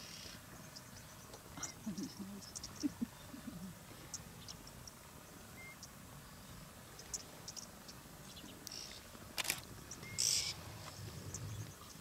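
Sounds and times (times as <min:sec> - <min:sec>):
faint low rumble: 0:00.1 - 0:12.0.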